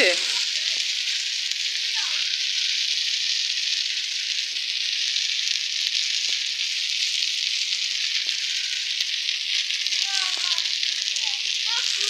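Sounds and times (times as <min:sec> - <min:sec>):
water hissing: 0:00.0 - 0:12.0.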